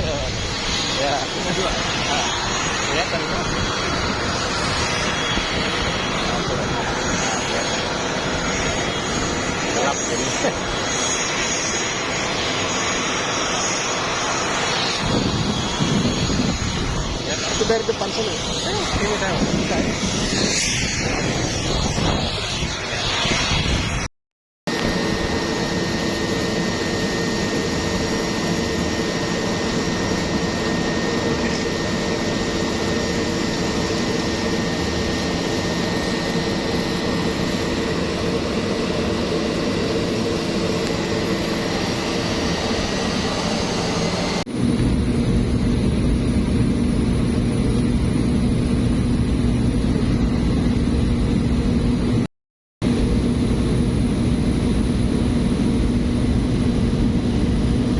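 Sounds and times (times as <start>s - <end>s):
plane engine and propeller drone: 0.0s - 24.1s, 24.7s - 57.9s.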